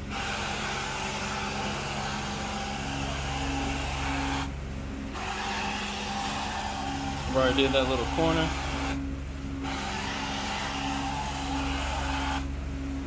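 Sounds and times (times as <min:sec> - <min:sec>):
hiss of spray and suction: 0:00.0 - 0:04.5, 0:05.2 - 0:09.0, 0:09.6 - 0:12.4
cleaning machine humming: 0:00.0 - 0:13.0.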